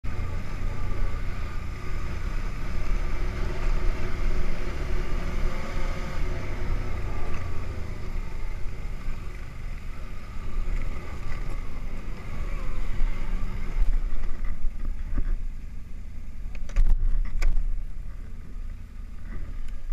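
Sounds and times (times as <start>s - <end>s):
atv engine rumbling: 0.0s - 19.9s.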